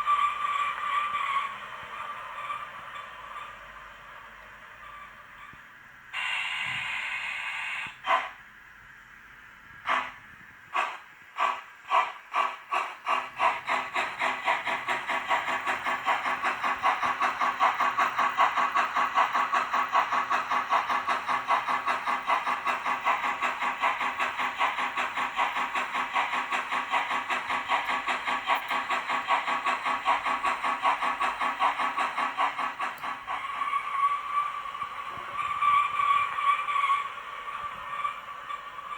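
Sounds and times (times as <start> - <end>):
steam locomotive chuffing: 0.0 - 8.8, 9.6 - 38.9.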